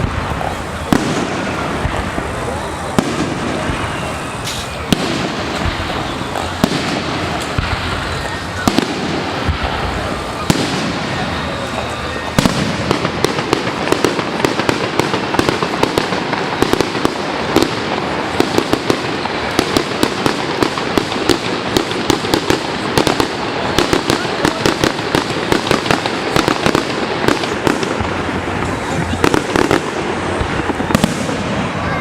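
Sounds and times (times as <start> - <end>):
fireworks crackling and popping: 0.0 - 32.0
steady noisy hiss: 0.0 - 32.0.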